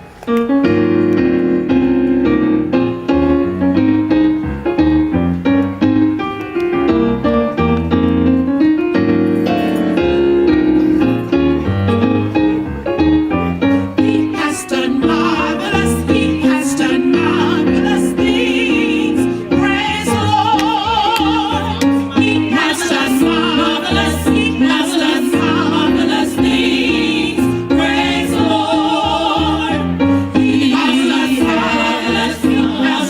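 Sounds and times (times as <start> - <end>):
piano chords: 0.0 - 33.0.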